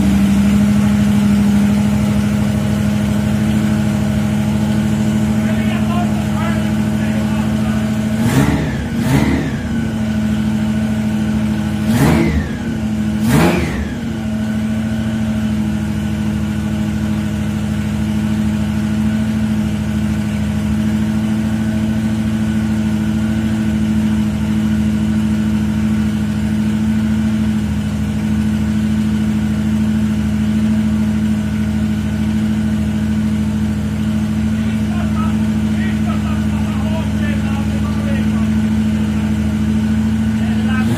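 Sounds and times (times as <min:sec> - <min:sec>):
car engine revving and idling: 0:00.0 - 0:40.9.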